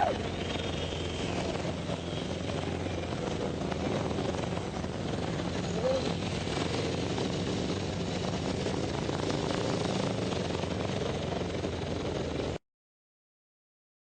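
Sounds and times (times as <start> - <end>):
pulsing engine drone: 0.0 - 12.6.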